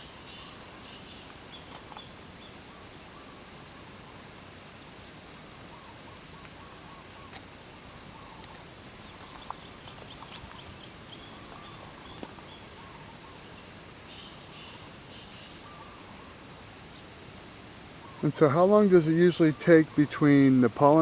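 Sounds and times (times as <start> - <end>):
birds chirping faintly: 0.0 - 21.0
steady outdoor hiss: 0.0 - 21.0.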